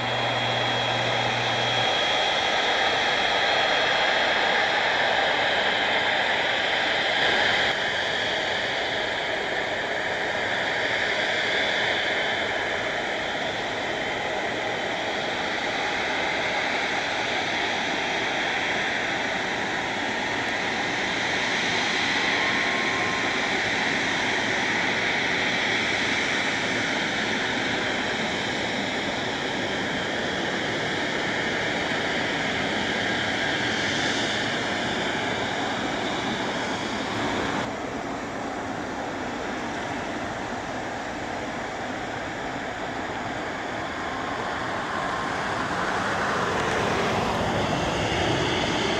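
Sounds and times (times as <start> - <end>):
jet engines roaring at takeoff: 0.0 - 48.9.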